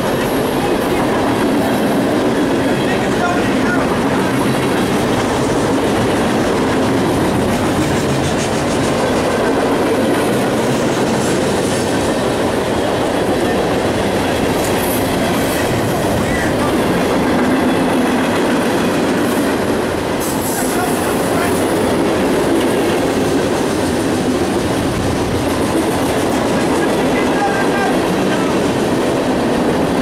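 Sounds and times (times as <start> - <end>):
train wheels clattering on rails: 0.0 - 30.0.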